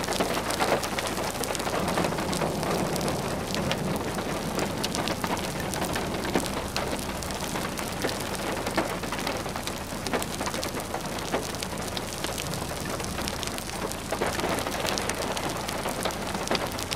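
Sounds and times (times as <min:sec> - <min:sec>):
heavy rain: 0:00.0 - 0:16.9.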